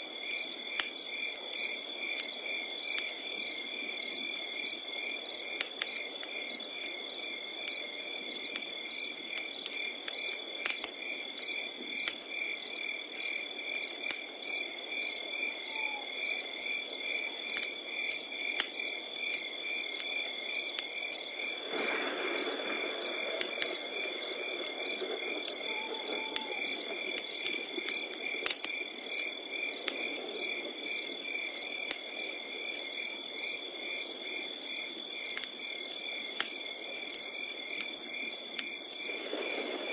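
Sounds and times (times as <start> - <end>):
night insects chirping: 0.0 - 39.9
wood fire crackling: 0.0 - 39.9.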